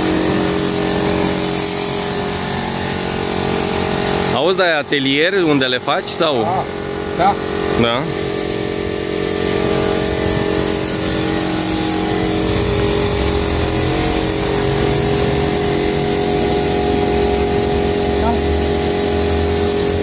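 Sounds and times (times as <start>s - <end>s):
paint spray gun hissing: 0.0s - 6.2s, 8.0s - 20.0s
air motor droning: 0.0s - 20.0s.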